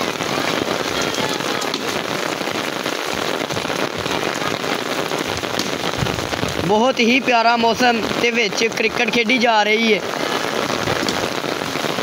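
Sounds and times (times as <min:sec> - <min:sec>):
heavy rain on paved street: 0:00.0 - 0:12.0.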